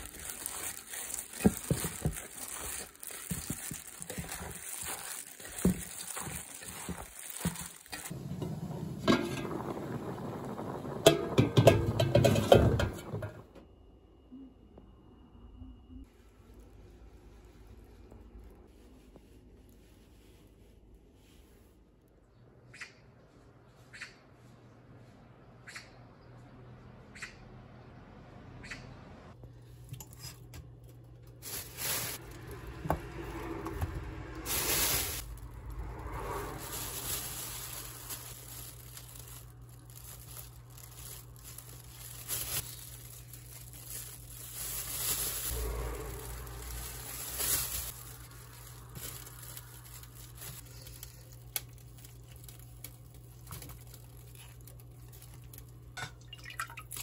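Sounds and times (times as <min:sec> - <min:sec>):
rustling and crinkling handling: 0:00.0 - 0:13.4, 0:16.1 - 0:22.0, 0:29.4 - 0:57.0.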